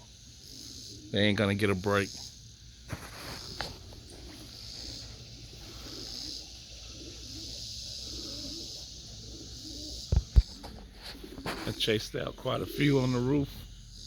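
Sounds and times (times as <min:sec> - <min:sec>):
pigeons cooing: 0:00.0 - 0:14.0
steady high hiss: 0:00.0 - 0:14.0.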